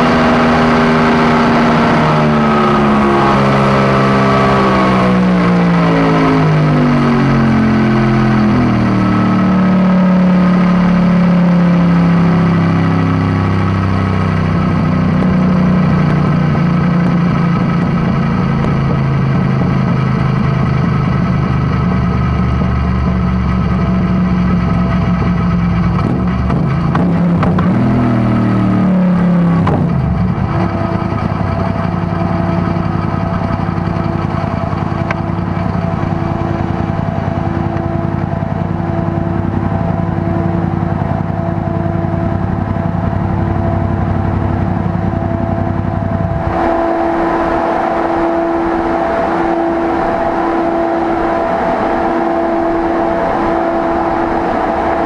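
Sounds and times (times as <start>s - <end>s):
fan whir: 0.0s - 55.0s
motorcycle engine revving and idling: 0.0s - 55.0s.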